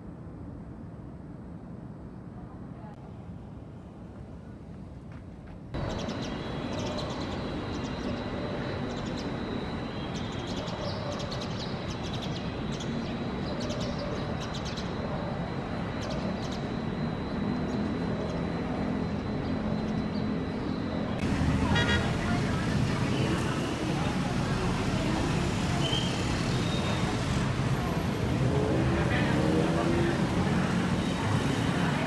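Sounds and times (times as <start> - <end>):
city traffic hum: 0.0 - 32.0
sparrows chirping: 5.8 - 32.0.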